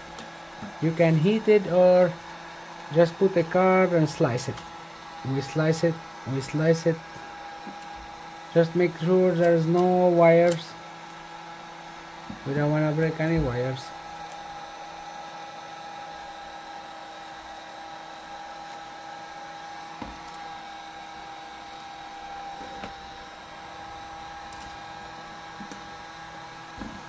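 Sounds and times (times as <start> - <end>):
small electric motor humming: 0.0 - 27.0.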